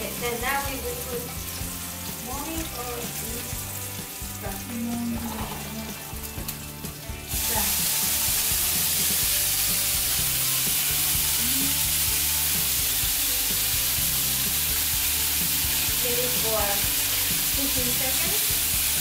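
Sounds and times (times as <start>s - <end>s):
garlic frying in oil: 0.0s - 19.0s
loud steady sizzle: 0.0s - 19.0s.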